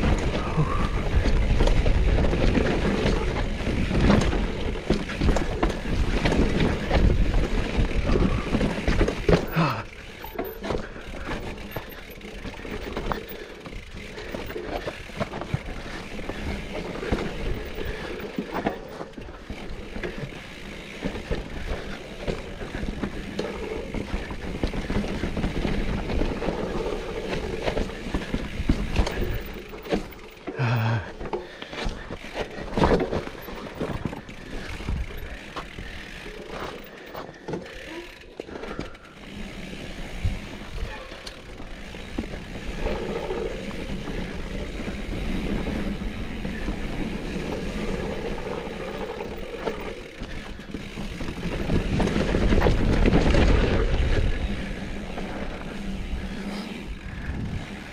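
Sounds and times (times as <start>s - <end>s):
bike chain and frame rattling: 0.0s - 57.9s
tyres crunching over dirt: 0.0s - 57.9s.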